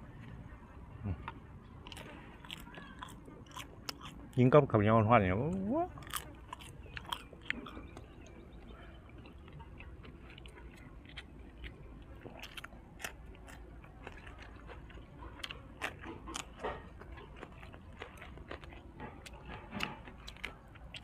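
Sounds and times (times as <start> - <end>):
crisp chewing crunches: 1.1 - 4.5, 5.5 - 21.0.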